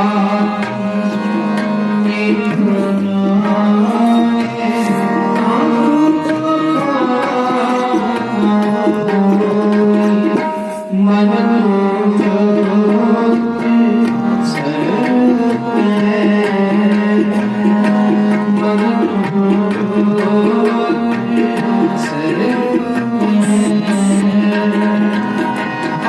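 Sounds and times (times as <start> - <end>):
harmonium chords and melody: 0.0 - 26.0
tabla rhythm: 0.0 - 26.0.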